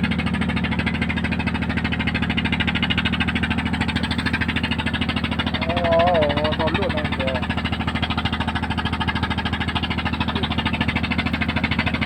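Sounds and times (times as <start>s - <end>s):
boat diesel engine running: 0.0s - 12.0s.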